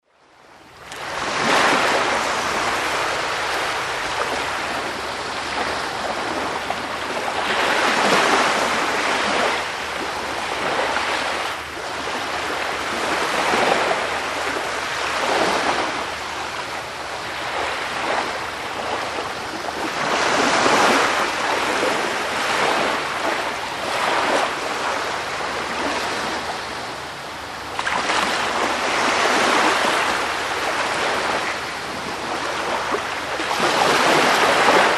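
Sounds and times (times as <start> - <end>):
waves breaking: 0.8 - 34.9.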